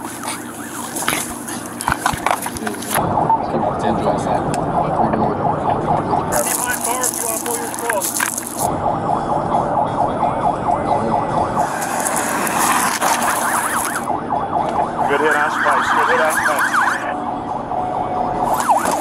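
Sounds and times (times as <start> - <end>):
police siren yelping: 0.0 - 19.0
road noise: 0.0 - 19.0.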